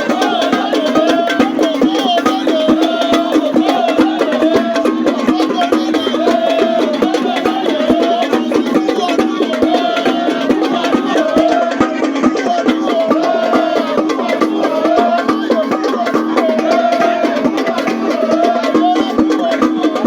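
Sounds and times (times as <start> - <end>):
music with wood-block percussion: 0.0 - 20.0.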